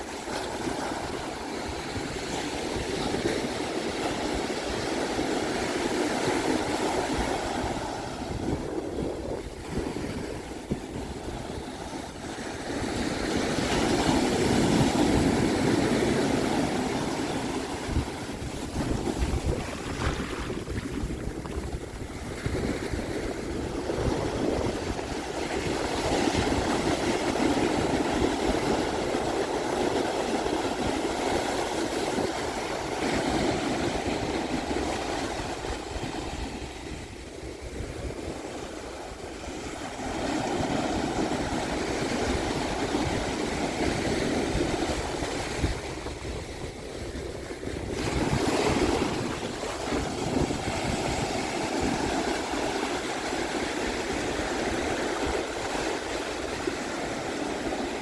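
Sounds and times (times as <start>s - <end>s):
surf breaking on beach: 0.0s - 58.0s
wind rumble on microphone: 0.0s - 58.0s.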